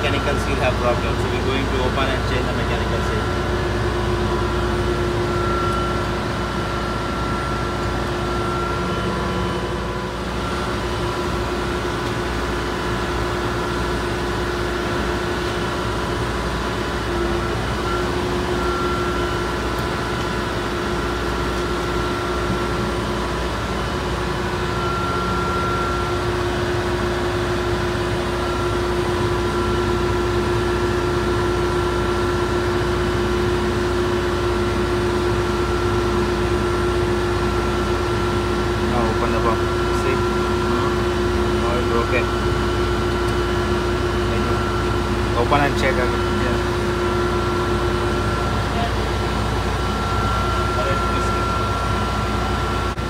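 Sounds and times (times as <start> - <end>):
engine-room machinery drone: 0.0 - 53.0
steady whining tones: 0.0 - 53.0.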